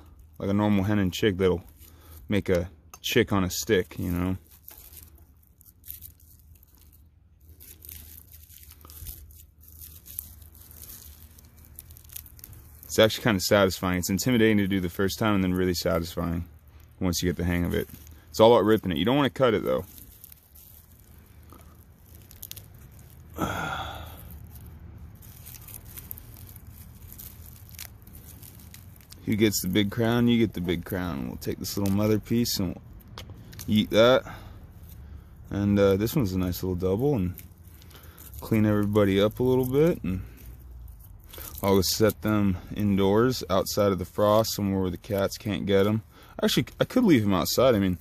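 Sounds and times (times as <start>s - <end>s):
plant clump being torn apart: 0.0s - 48.0s
roots and soil crumbling: 0.0s - 48.0s.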